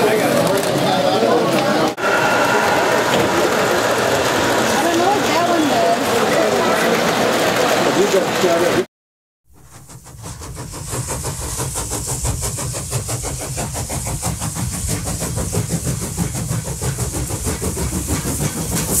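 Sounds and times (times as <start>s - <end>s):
model train rhythmic clatter: 2.0s - 8.8s, 9.6s - 19.0s.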